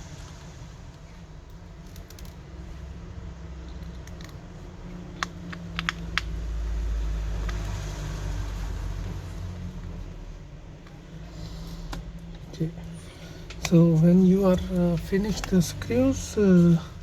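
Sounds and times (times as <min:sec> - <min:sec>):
low rumble of handling: 0:00.0 - 0:17.0.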